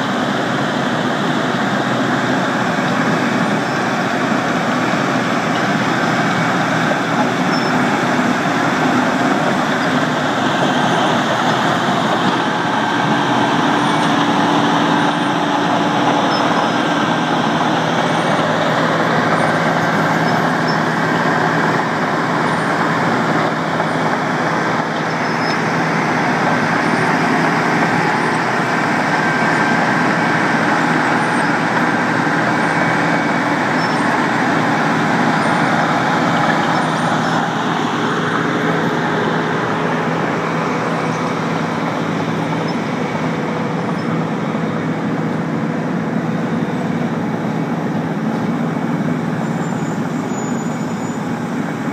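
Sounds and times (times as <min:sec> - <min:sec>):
machinery humming and rushing: 0:00.0 - 0:51.9.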